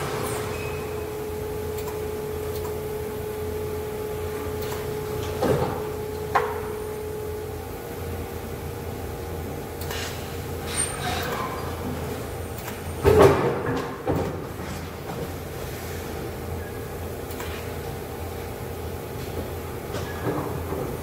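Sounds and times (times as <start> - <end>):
workshop hum: 0.0 - 21.0.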